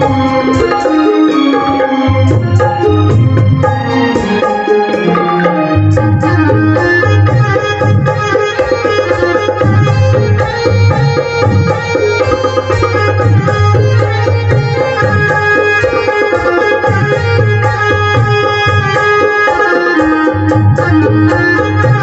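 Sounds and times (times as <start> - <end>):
hand drum beating: 0.0 - 22.0
keyboard melody: 0.0 - 22.0.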